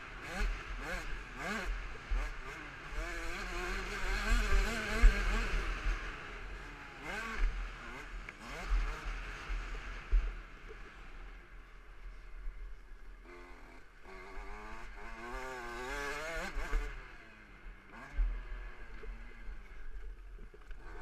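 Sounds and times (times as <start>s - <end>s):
motorcycle engine revving: 0.0s - 11.5s, 13.1s - 21.0s.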